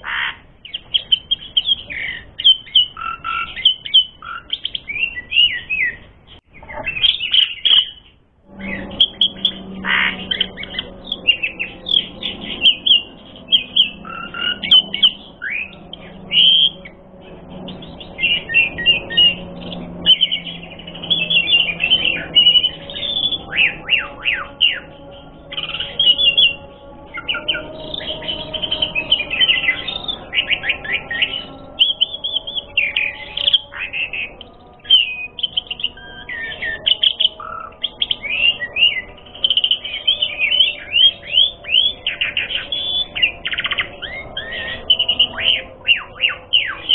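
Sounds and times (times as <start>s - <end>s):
starling singing rapid chirps: 0.0s - 46.9s.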